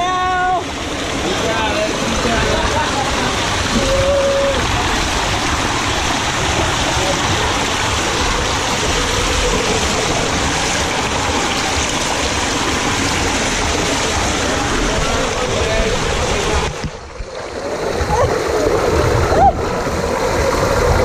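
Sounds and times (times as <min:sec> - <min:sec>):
water rushing down a tube slide: 0:00.0 - 0:21.0.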